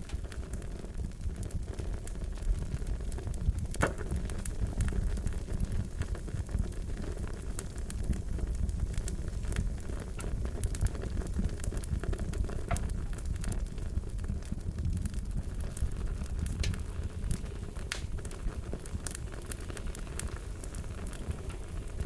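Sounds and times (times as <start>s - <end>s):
loud fire pops: 0.0s - 22.0s
wood fire crackling: 0.0s - 22.0s.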